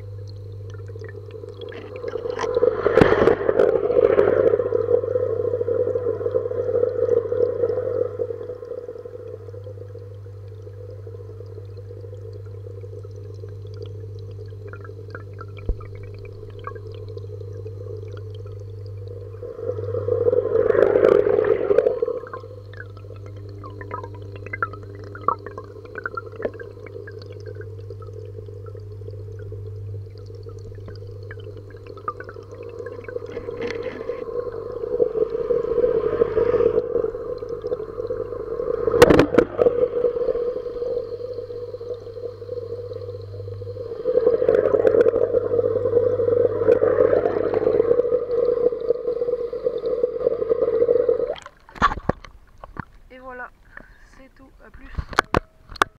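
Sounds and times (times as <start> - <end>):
water swishing: 0.0 - 55.8
muffled underwater hum: 0.0 - 55.9.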